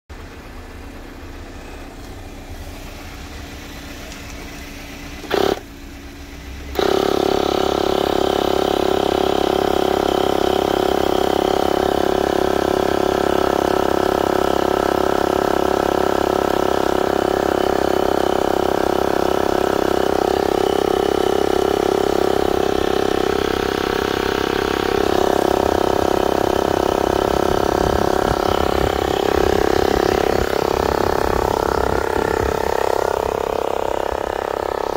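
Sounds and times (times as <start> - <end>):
air compressor humming: 0.1 - 34.9.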